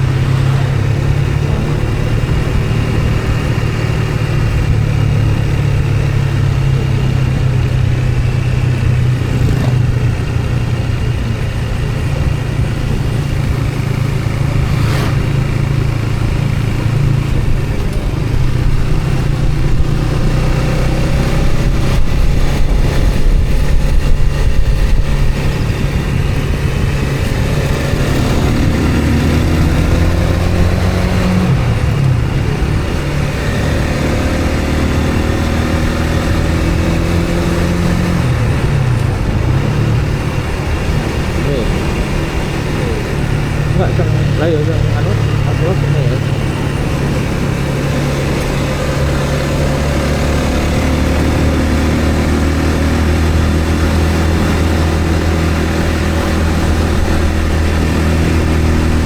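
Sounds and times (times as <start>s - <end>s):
road noise rumble: 0.0s - 59.0s
vehicle engine running: 0.0s - 59.0s.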